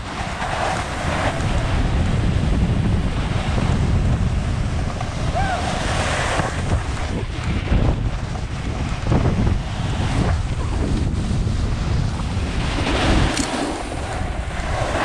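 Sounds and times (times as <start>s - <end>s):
skis sliding on snow: 0.0s - 15.0s
wind buffeting microphone: 0.0s - 15.0s.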